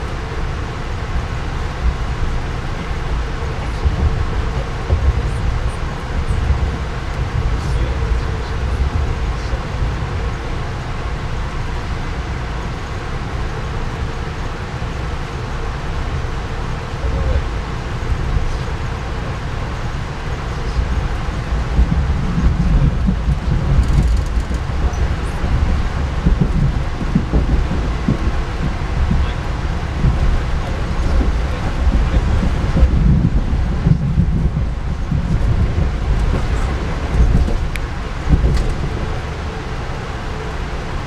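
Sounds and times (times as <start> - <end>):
train rumbling on tracks: 0.0 - 41.0.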